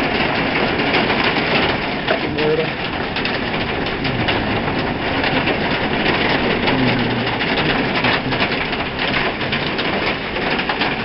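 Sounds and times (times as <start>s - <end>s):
hail and rain on a roof: 0.0s - 11.0s.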